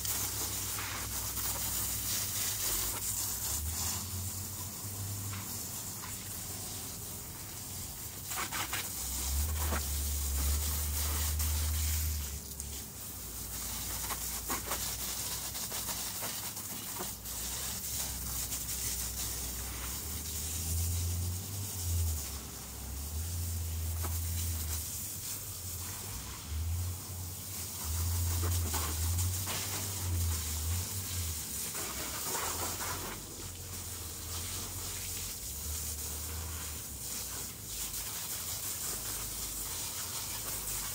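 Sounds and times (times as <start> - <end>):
garden hose spraying water: 0.0 - 40.9.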